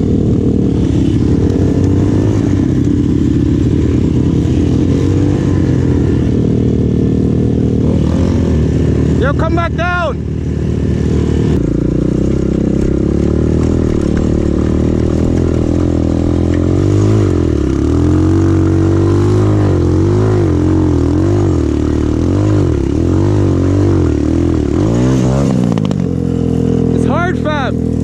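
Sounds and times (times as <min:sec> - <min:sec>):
pit bike engine revving: 0:00.0 - 0:28.0.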